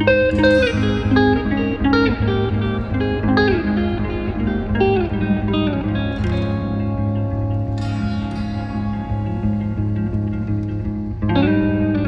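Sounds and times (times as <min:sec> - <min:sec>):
plucked guitar melody: 0:00.0 - 0:12.0
steady low drone: 0:00.0 - 0:12.0.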